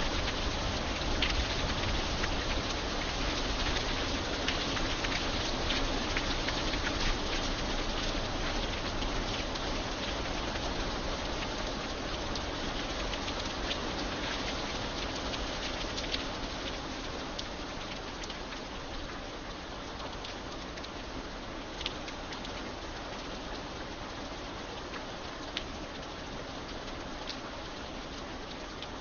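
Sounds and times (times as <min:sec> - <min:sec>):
light rain on iron bridge: 0:00.0 - 0:29.0
raindrops ticking: 0:00.0 - 0:29.0.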